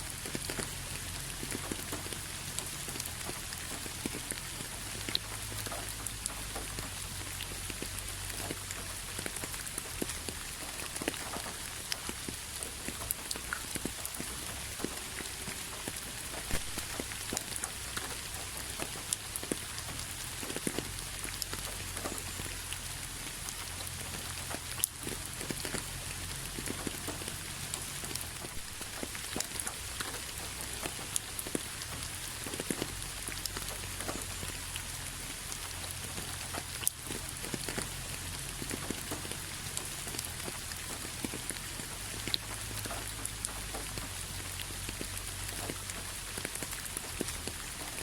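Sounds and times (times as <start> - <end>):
rain on a hard surface: 0.0 - 48.0.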